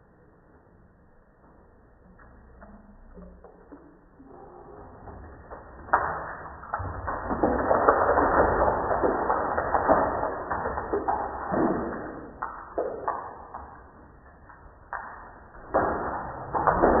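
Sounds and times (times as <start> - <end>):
water splashing onto face: 2.2 - 17.0.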